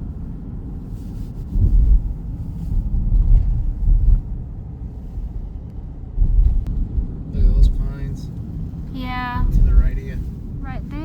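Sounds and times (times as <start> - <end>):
car road rumble: 0.0 - 11.0
wind buffeting microphone: 0.0 - 11.0.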